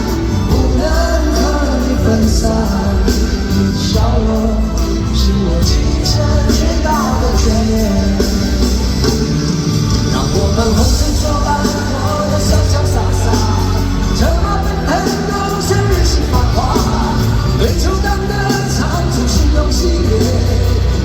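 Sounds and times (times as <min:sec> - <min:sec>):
live rock band playing: 0:00.0 - 0:21.0
person singing: 0:00.0 - 0:21.0.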